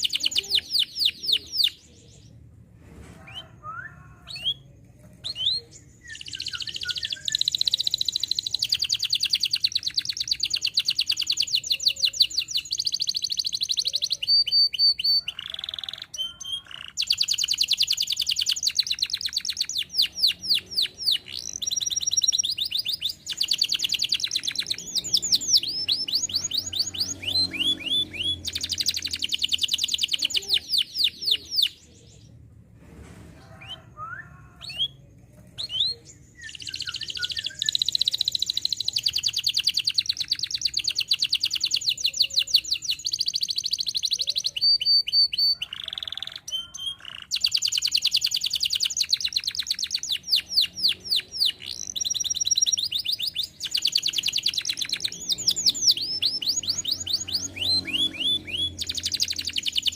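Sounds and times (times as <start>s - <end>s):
canary singing: 0.0s - 2.5s, 3.3s - 32.4s, 33.5s - 59.9s.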